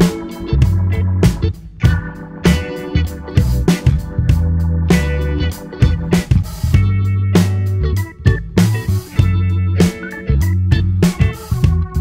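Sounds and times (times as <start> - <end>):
pop song with guitar and drums: 0.0 - 12.0.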